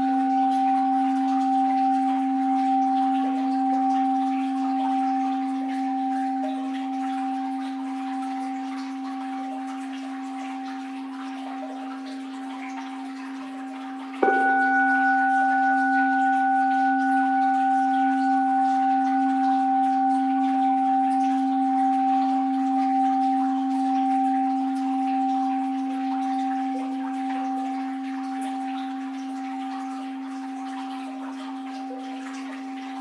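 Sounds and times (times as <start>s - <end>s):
bowl bell ringing: 0.0s - 33.0s
faint flowing water: 0.0s - 33.0s.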